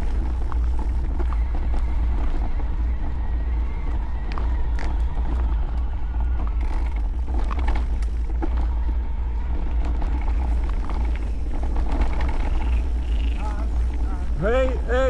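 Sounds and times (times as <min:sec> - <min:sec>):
bike tyres rumbling on dirt trail: 0:00.0 - 0:15.0
faint electric motor whine: 0:00.0 - 0:15.0
gravel and bike parts ticking: 0:00.0 - 0:15.0.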